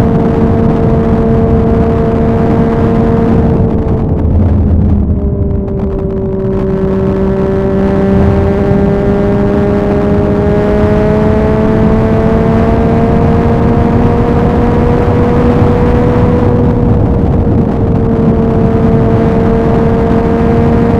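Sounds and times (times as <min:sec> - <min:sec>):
motorcycle engine revving: 0:00.0 - 0:20.9
wind and road noise: 0:00.0 - 0:20.9.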